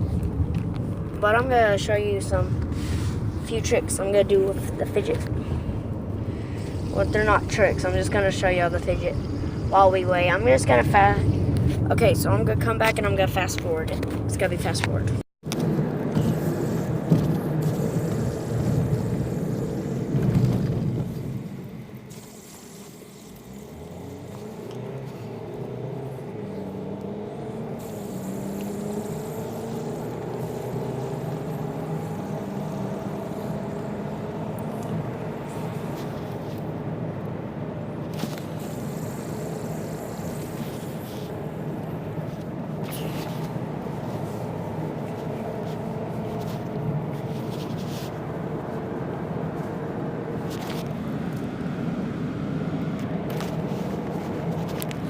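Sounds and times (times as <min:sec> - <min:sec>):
vehicle engine and road hum: 0:00.0 - 0:55.0.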